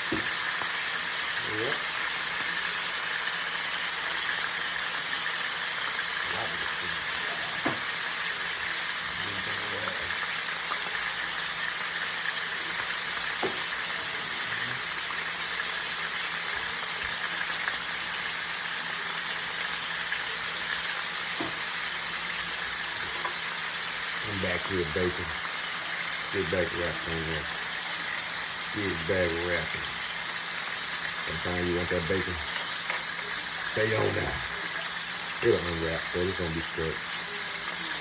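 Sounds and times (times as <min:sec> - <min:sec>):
steaks sizzling in a pan: 0:00.0 - 0:38.0.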